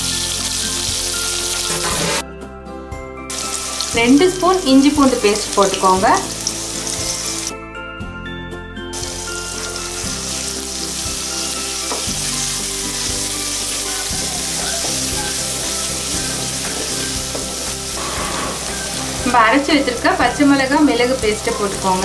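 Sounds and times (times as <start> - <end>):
food sizzling in hot oil: 0.0 - 2.2, 3.3 - 7.5, 8.9 - 22.0.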